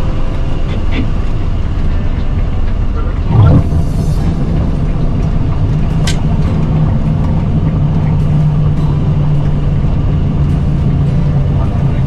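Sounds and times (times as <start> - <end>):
airliner rumble on runway: 0.0 - 12.0.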